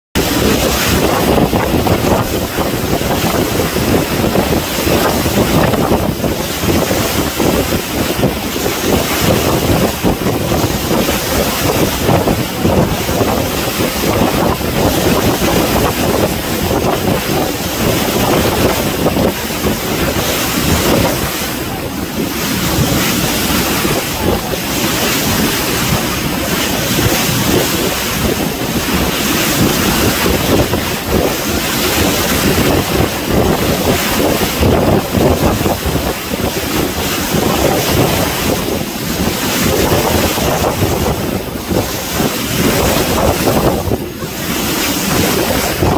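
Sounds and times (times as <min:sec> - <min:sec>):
sea rushing: 0:00.2 - 0:45.9
wind blowing on microphone: 0:00.2 - 0:45.9.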